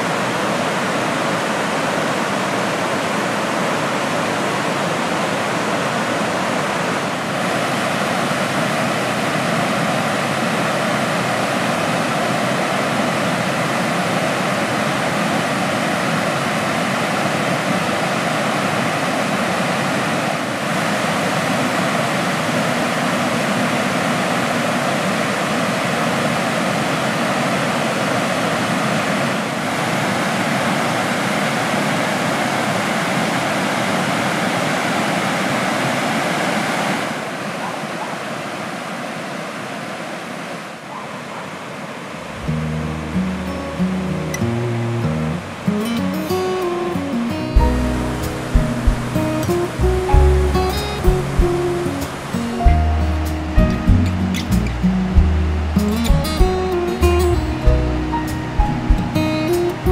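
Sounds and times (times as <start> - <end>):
water rushing over weir: 0.0 - 59.9.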